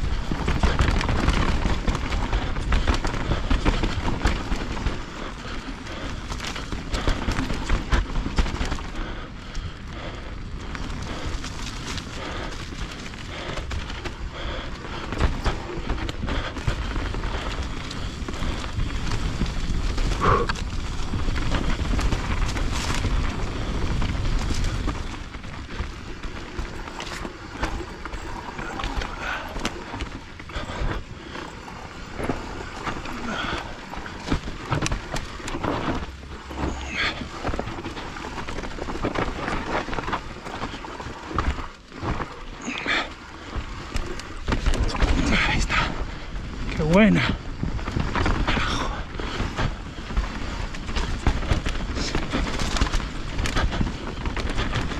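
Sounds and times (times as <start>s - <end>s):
bike rattling and knocking: 0.0s - 54.9s
bike tyres on dirt: 0.0s - 54.9s
wind rumbling on microphone: 0.0s - 54.9s.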